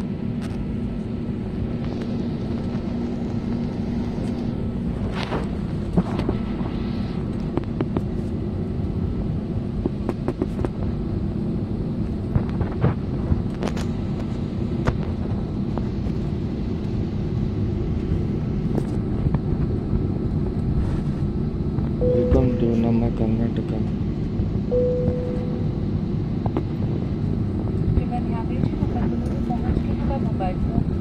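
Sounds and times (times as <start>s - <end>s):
jet engine hum: 0.0s - 31.0s
low rumble: 0.0s - 31.0s.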